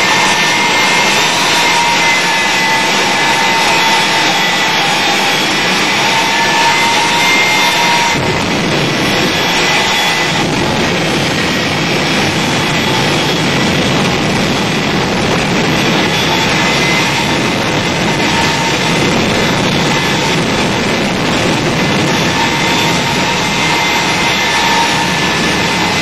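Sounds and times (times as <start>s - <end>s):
jet engine roaring: 0.0s - 26.0s.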